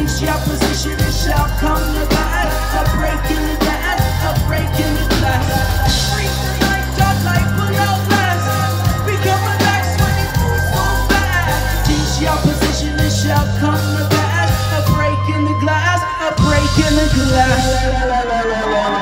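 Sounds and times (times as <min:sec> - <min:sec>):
bass notes: 0:00.0 - 0:19.0
drums: 0:00.0 - 0:19.0
live band playing: 0:00.0 - 0:19.0.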